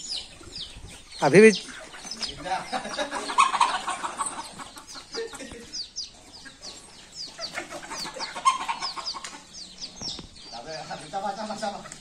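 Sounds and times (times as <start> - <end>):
chickens clucking: 0.0 - 12.0
chicks peeping: 0.0 - 12.0.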